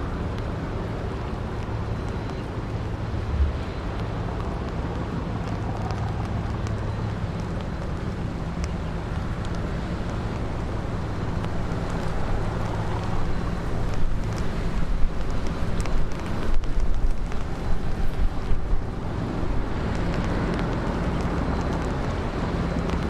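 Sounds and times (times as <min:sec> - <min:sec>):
diesel engine droning: 0:00.0 - 0:23.0
wind on microphone: 0:01.4 - 0:23.0.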